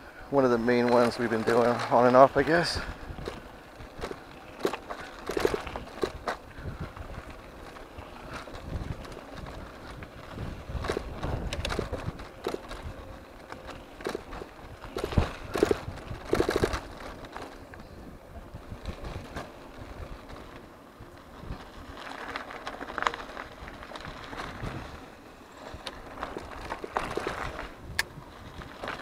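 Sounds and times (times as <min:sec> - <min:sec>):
bike rattling over bumps: 0:00.0 - 0:29.0
tyres crunching on gravel: 0:00.2 - 0:29.0.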